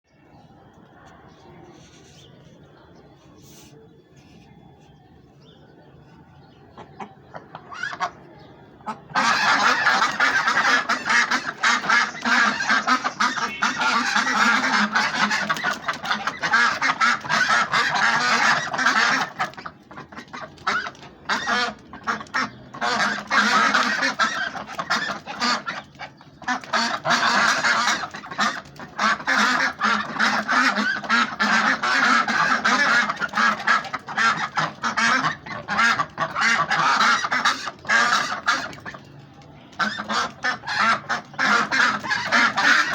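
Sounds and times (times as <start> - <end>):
flock of ducks quacking: 6.4 - 42.9.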